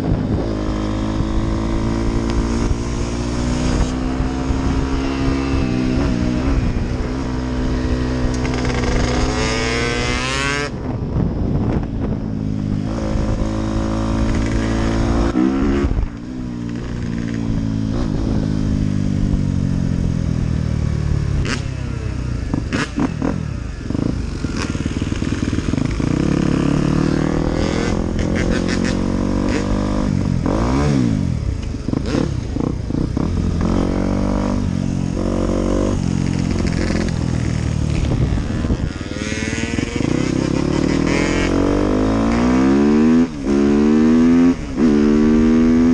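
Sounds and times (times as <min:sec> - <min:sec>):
dirt bike engine revving: 0:00.0 - 0:10.7, 0:12.8 - 0:19.0, 0:22.5 - 0:31.3, 0:31.9 - 0:45.9.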